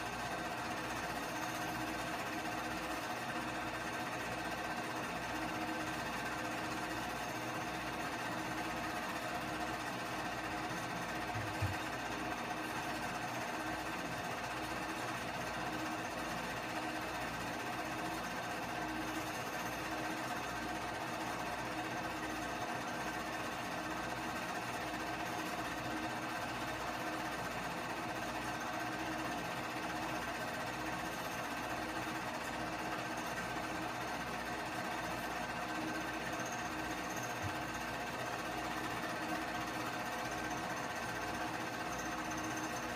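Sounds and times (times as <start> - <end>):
movie projector whirring: 0.0 - 42.9.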